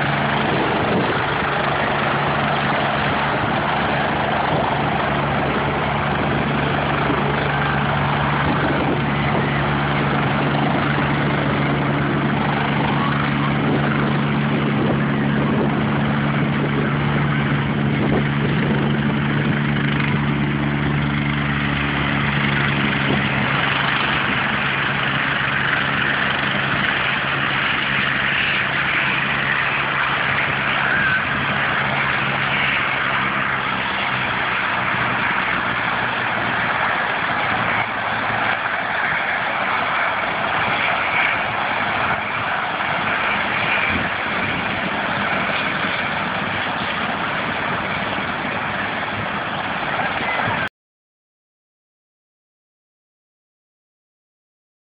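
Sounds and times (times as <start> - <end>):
helicopter engine hum: 0.0 - 50.7
rotor wash rushing: 0.0 - 50.7.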